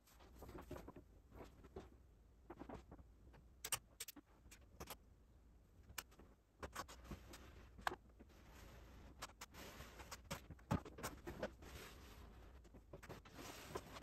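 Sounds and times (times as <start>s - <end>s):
low steady room hum: 0.0s - 14.0s.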